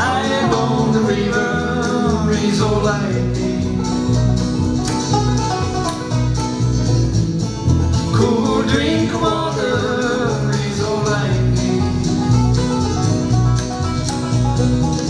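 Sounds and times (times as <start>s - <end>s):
banjo picking: 0.0s - 15.0s
plucked upright bass: 0.0s - 15.0s
strummed acoustic guitar: 0.0s - 15.0s.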